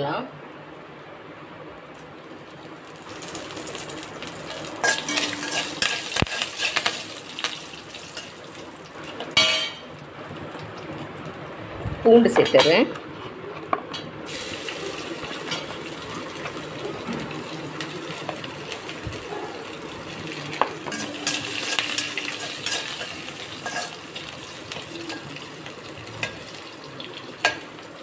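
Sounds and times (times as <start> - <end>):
garlic sizzling in hot oil: 1.9 - 11.3, 14.3 - 28.0.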